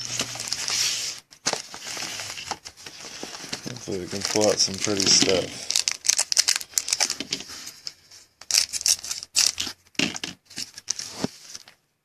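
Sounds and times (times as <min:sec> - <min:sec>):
wrapper tearing and crinkling: 0:00.0 - 0:07.5, 0:08.4 - 0:11.8.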